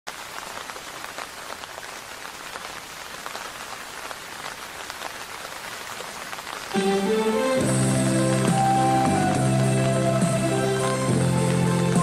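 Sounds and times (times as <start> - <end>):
rain falling into water: 0.1 - 12.0.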